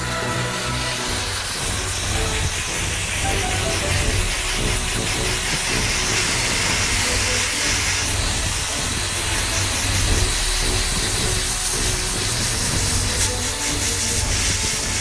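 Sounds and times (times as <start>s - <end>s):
steam jet hissing: 0.0s - 15.0s
low hum: 1.0s - 13.2s.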